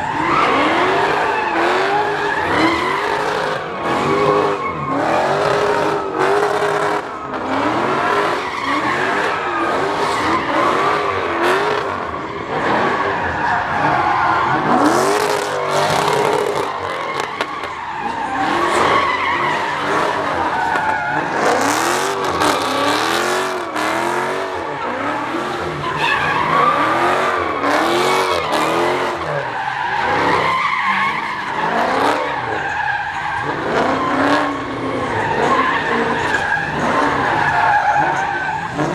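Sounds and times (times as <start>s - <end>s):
car engine revving: 0.0s - 38.9s
tyres screeching: 0.0s - 38.9s.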